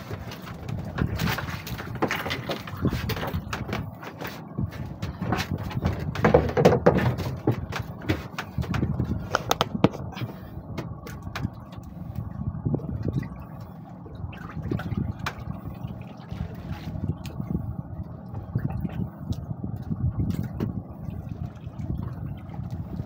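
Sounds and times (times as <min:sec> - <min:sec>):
water slapping against boat: 0:00.0 - 0:23.0.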